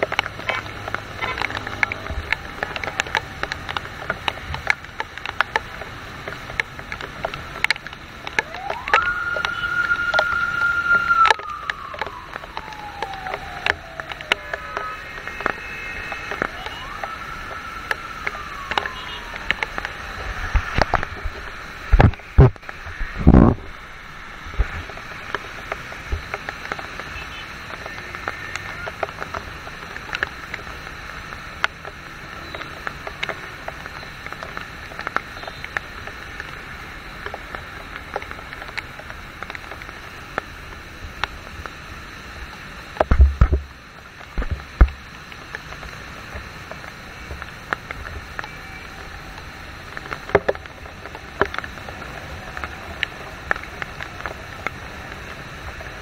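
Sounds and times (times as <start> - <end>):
heavy rain: 0.0 - 56.0
traffic on wet road hissing: 0.0 - 56.0.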